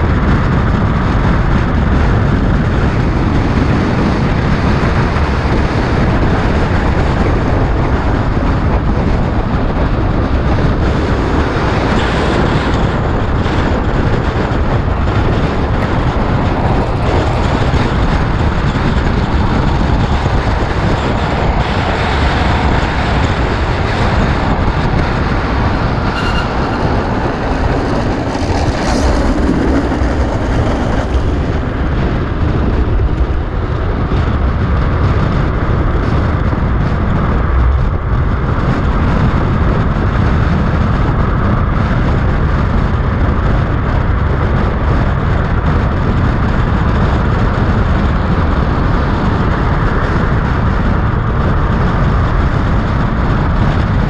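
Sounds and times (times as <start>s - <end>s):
wheels rolling on asphalt: 0.0s - 54.0s
wind buffeting microphone: 0.0s - 54.0s.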